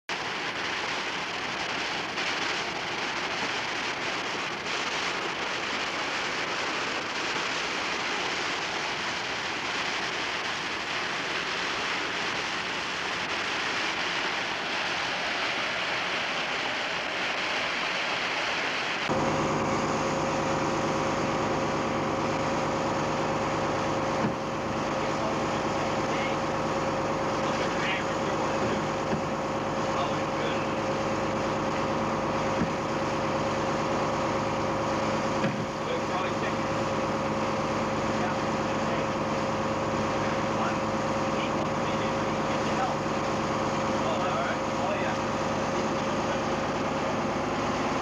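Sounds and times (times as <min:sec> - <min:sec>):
boat engine droning: 0:00.1 - 0:48.0
steady hiss: 0:00.1 - 0:48.0.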